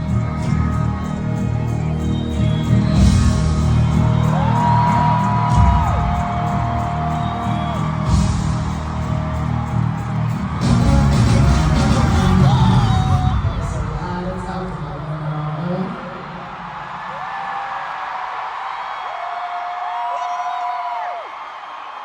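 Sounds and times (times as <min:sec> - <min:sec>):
amplified concert music: 0:00.0 - 0:18.1
crowd screaming and whooping: 0:00.0 - 0:22.0.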